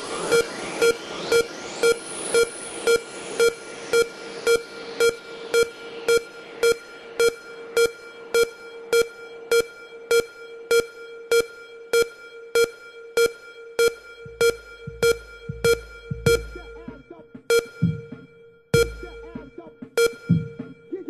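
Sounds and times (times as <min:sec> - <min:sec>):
synth beep: 0:00.0 - 0:21.0.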